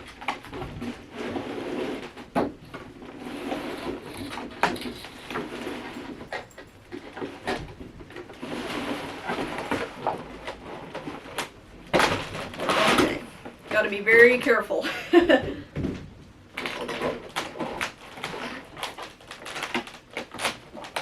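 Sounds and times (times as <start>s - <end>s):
cardboard rustling and scraping: 0.0s - 14.0s, 15.8s - 21.0s.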